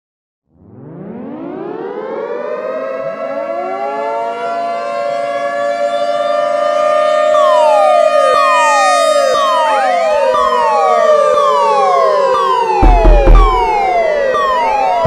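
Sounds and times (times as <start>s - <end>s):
falling siren sweeps: 0.5s - 15.0s
second rising siren tone: 0.5s - 15.0s
wailing alarm siren: 0.5s - 15.0s.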